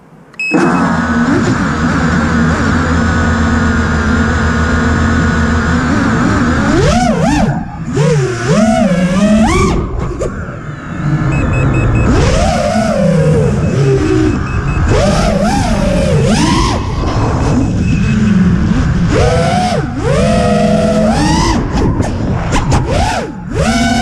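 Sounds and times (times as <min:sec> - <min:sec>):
quadcopter motors whining: 0:00.5 - 0:24.0.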